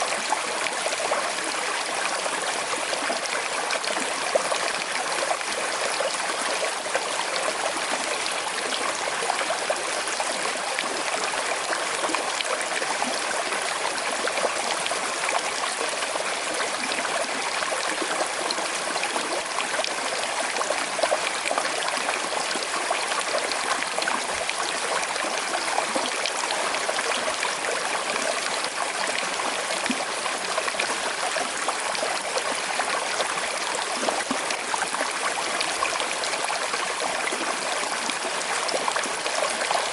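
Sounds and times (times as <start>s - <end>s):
river trickling over stones: 0.0s - 39.9s.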